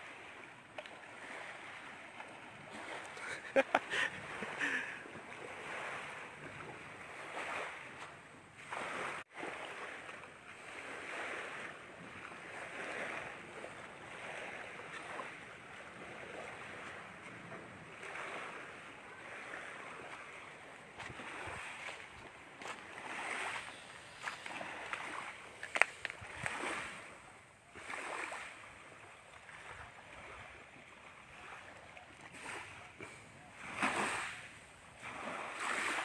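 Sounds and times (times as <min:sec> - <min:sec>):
waves washing in: 0:00.0 - 0:36.0.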